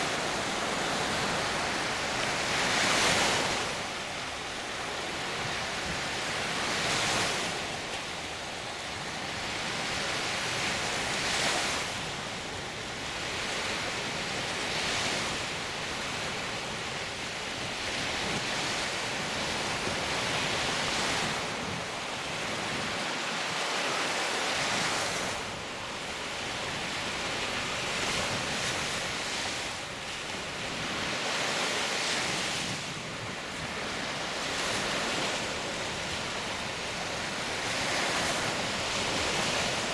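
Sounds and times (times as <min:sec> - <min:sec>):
waves washing on sandy beach: 0:00.0 - 0:39.9
wind: 0:00.0 - 0:39.9.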